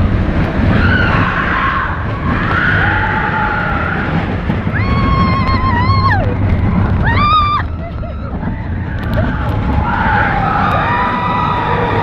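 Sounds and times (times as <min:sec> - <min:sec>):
roller coaster rumbling on track: 0:00.0 - 0:12.0
wind rushing over microphone: 0:00.0 - 0:12.0.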